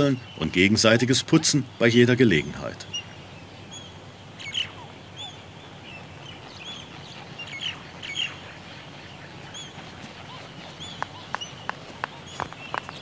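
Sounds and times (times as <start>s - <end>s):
terns chirping: 0.0s - 13.0s.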